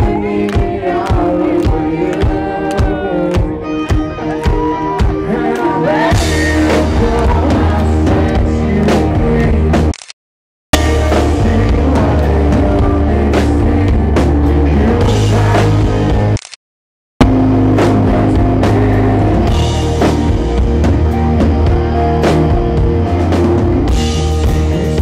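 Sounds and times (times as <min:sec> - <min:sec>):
drum kit: 0:00.0 - 0:09.9, 0:10.8 - 0:16.4, 0:17.2 - 0:25.0
bass: 0:00.0 - 0:10.1, 0:10.7 - 0:16.6, 0:17.2 - 0:25.0
guitar: 0:00.0 - 0:10.1, 0:10.8 - 0:16.5, 0:17.2 - 0:25.0.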